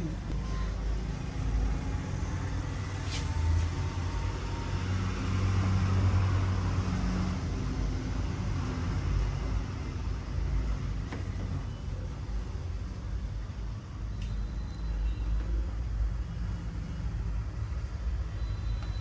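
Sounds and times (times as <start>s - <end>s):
road traffic engine rumble: 0.0s - 18.4s.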